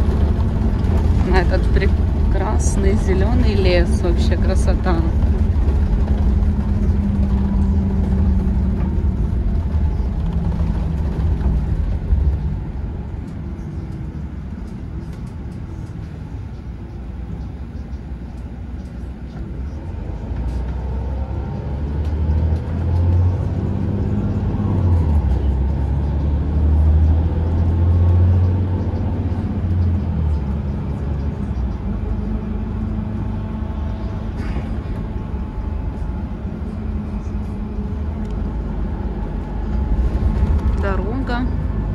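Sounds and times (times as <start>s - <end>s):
engine and road rumble: 0.0s - 41.9s
low hum: 0.0s - 41.9s.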